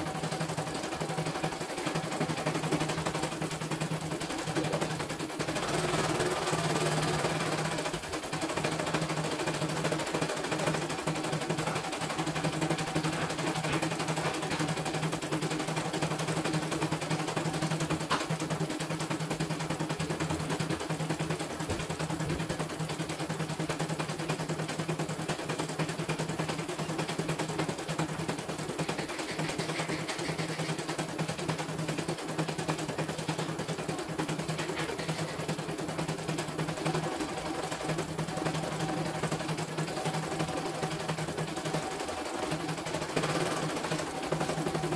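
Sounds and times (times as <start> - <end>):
embroidery machine needle clatter: 0.0 - 44.9.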